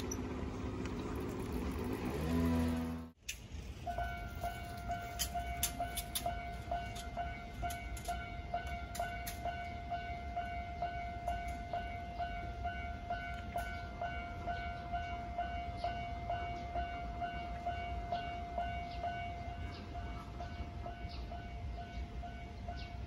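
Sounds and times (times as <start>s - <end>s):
level crossing alarm ringing: 3.8s - 23.0s.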